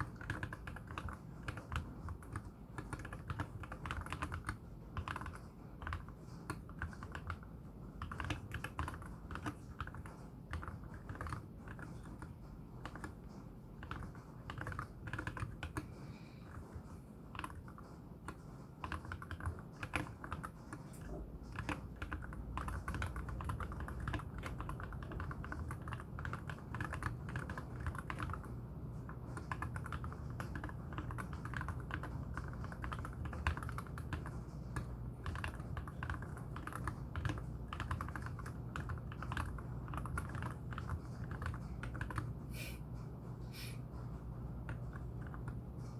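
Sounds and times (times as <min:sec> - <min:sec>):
mechanical keyboard typing: 0:00.0 - 0:42.4, 0:44.6 - 0:45.9.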